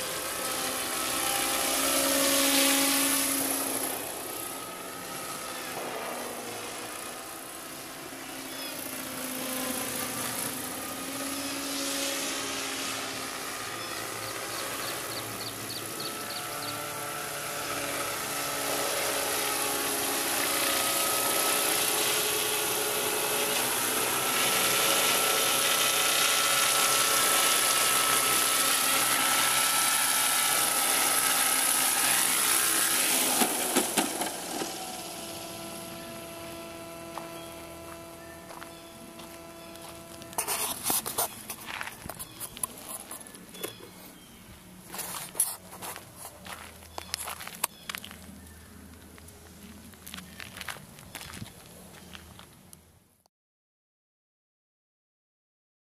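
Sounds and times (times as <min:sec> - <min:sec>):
helicopter rotor whir: 0:00.0 - 0:52.1.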